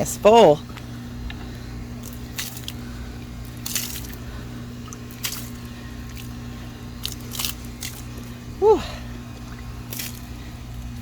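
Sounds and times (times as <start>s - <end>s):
steady low hum: 0.0s - 11.0s
squishy rustles of wet leaves: 0.7s - 11.0s.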